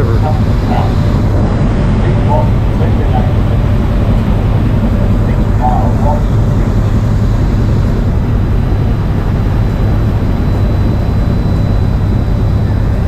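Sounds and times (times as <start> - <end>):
boat engine low drone: 0.0 - 13.0
constant rushing noise: 0.0 - 13.0.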